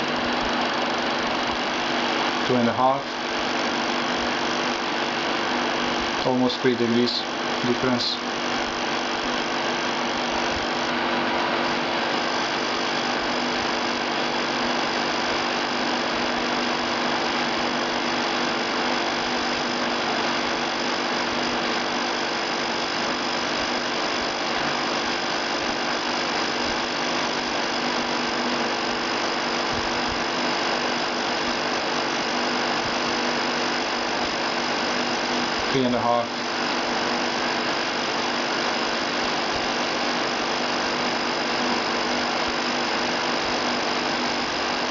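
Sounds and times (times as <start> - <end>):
electric fan blowing air: 0.0 - 44.9.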